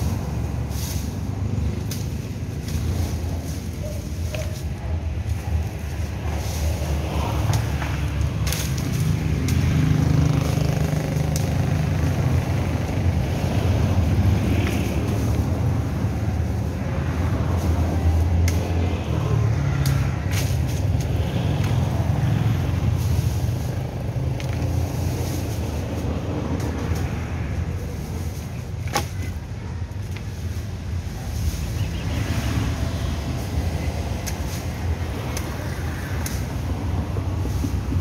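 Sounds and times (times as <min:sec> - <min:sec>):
car engines rumbling: 0:00.0 - 0:38.0.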